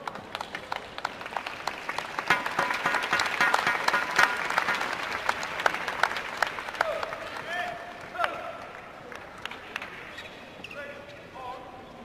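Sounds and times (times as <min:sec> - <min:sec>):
crowd clapping and cheering: 0:00.0 - 0:10.0.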